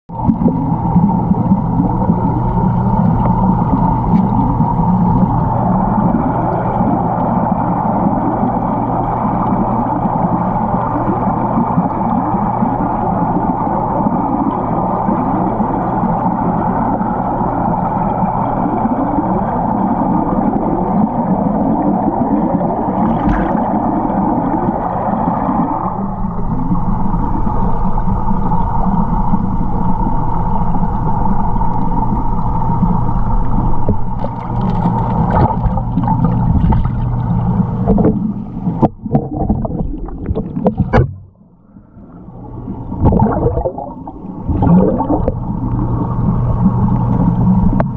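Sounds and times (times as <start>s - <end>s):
churning water underwater: 0.1s - 47.9s
steady low hum: 0.1s - 47.9s.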